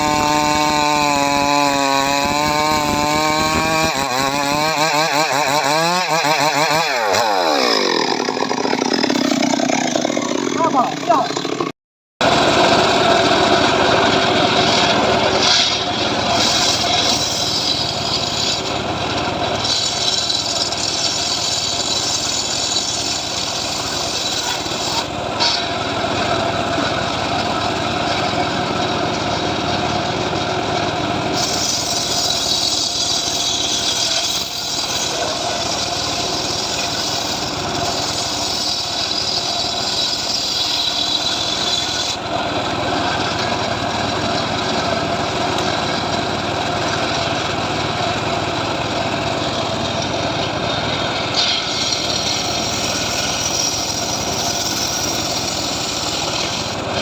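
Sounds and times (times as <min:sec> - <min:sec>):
small sawmill engine running: 0:00.0 - 0:57.0.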